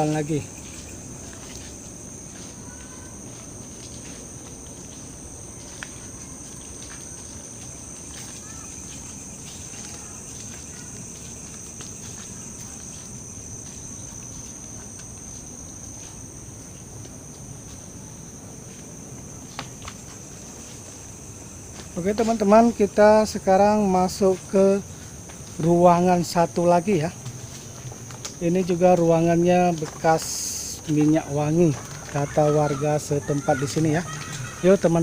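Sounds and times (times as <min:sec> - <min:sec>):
faint ticks and crackles: 0:00.0 - 0:35.0
insect chorus drone: 0:00.0 - 0:35.0.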